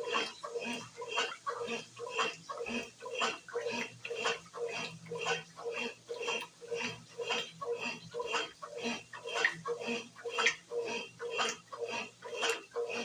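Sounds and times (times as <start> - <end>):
washing machine motor hum: 0.0 - 13.0
washing machine sloshing water: 0.0 - 13.0.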